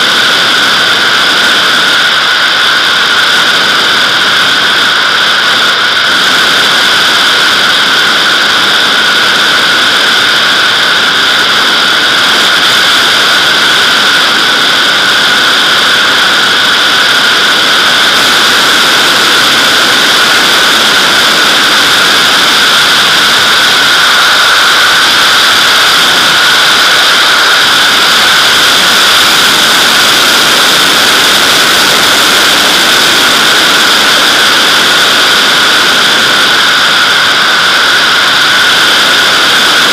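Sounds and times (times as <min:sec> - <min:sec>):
rushing airflow with whistling: 0:00.0 - 0:39.9.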